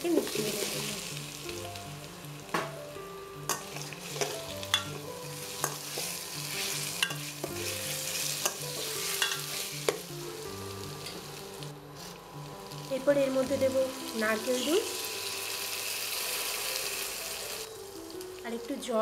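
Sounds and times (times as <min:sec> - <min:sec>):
paste sizzling in oil: 0:00.0 - 0:18.5.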